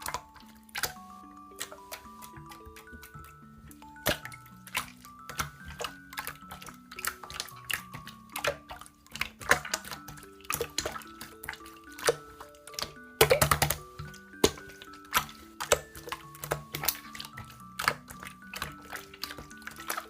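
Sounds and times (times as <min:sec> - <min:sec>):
slime clicking and popping: 0:00.0 - 0:20.0
soft background music: 0:00.0 - 0:20.0.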